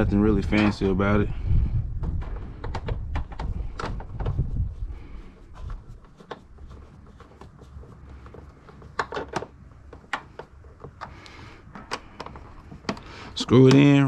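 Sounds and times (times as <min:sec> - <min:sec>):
low steady rumble: 0:00.0 - 0:13.4.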